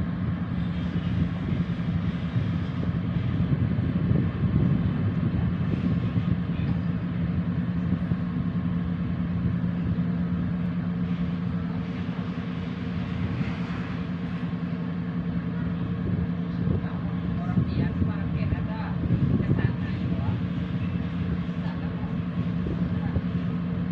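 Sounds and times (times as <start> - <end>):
boat engine running: 0.0 - 23.9
water washing: 0.0 - 23.9
wind noise: 0.0 - 23.9.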